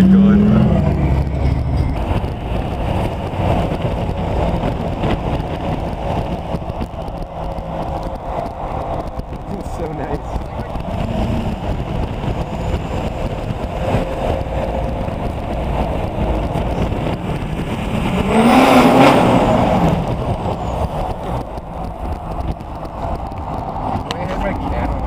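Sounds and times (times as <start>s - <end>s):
diesel truck engine revving: 0.0s - 25.0s.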